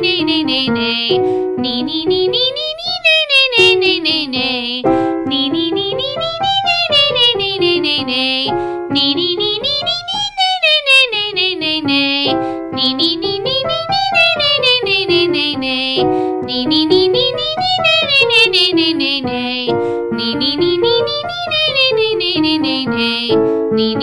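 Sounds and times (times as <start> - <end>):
piano accompaniment: 0.0 - 24.0
woman singing vocal scales: 0.0 - 24.0.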